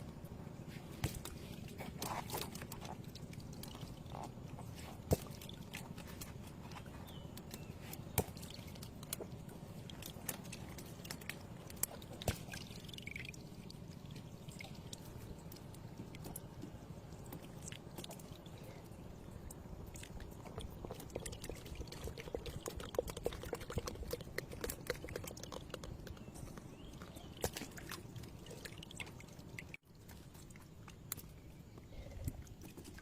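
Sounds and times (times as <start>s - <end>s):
water pouring and dripping: 0.9s - 33.0s.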